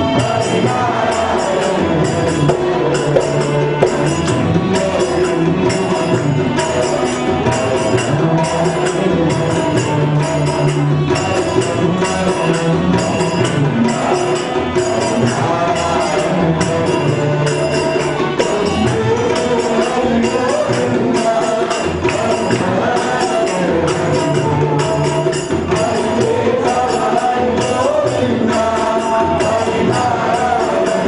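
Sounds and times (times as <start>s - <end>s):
devotional song: 0.0s - 31.0s
harmonium: 0.0s - 31.0s
high percussive beat: 0.0s - 31.0s.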